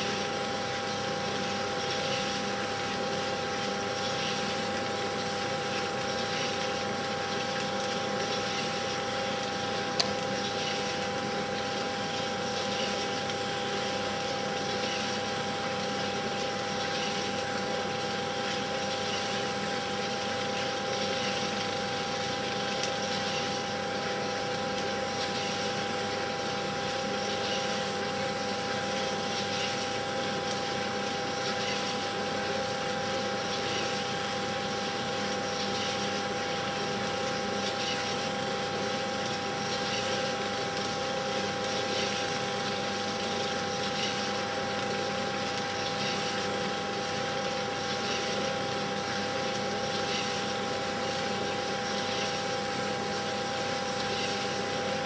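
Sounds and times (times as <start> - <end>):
projector motor whirr: 0.0 - 55.0.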